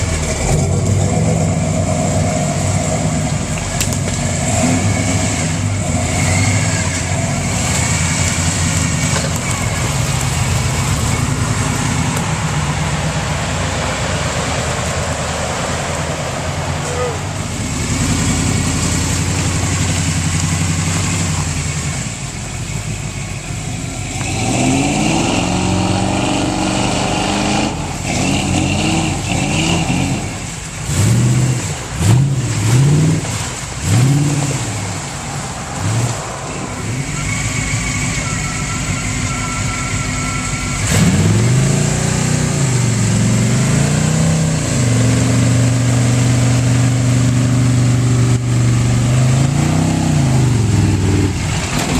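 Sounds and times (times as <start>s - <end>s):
truck engine revving: 0.0s - 51.9s.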